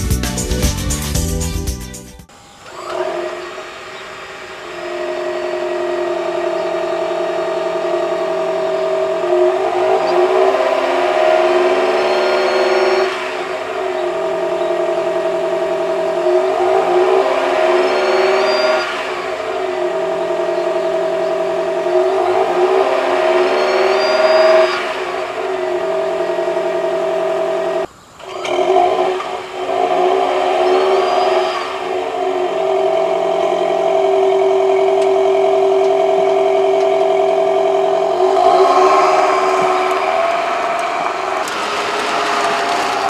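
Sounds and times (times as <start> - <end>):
car pulling away: 0.0 - 43.0
high electronic whine: 2.3 - 43.0
car engine revving: 2.6 - 43.0.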